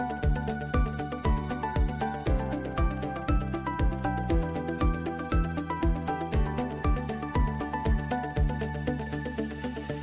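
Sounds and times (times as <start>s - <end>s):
low kick drum: 0.0s - 8.7s
electronic music with steady beat: 0.0s - 10.0s.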